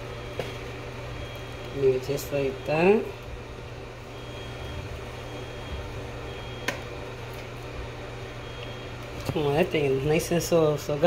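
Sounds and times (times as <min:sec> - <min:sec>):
low kitchen hum: 0:00.0 - 0:11.0.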